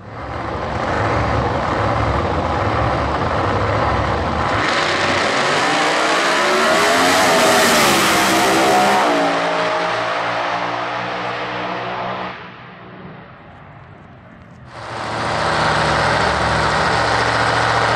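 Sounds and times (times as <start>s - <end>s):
drag car engine rumbling and accelerating: 0.0s - 17.9s.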